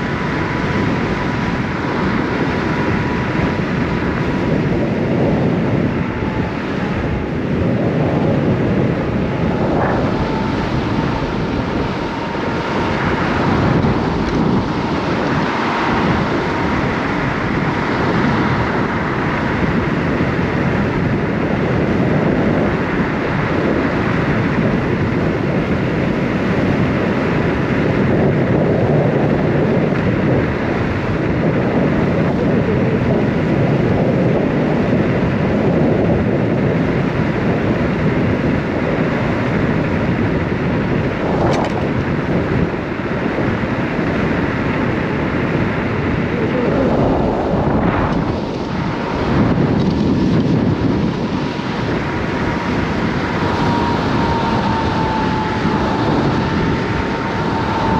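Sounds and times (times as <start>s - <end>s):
faint steady whine: 0.0s - 57.9s
tyre and road noise: 0.0s - 57.9s
wind rushing over microphone: 0.0s - 57.9s.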